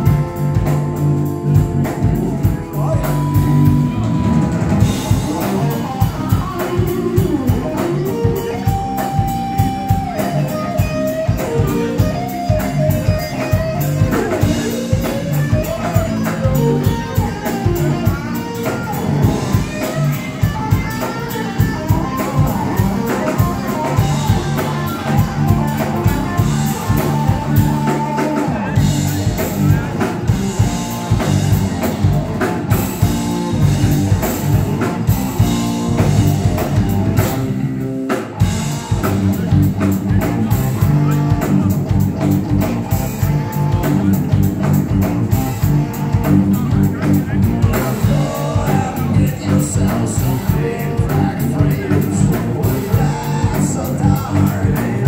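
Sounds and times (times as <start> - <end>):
bass guitar: 0.0 - 55.0
electric guitar lead with bent notes: 0.0 - 55.0
steady drum kit beat: 0.0 - 55.0.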